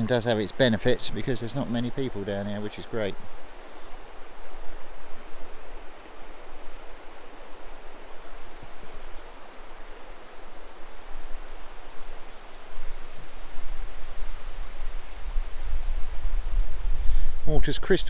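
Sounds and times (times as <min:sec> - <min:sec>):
river rushing over stones: 0:00.0 - 0:18.0
wind rumble on microphone: 0:03.1 - 0:17.7.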